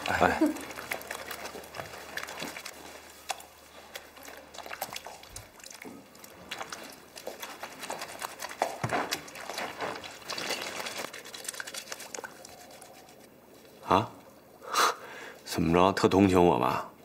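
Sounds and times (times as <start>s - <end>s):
laundry squelching and splashing: 0.0s - 13.9s.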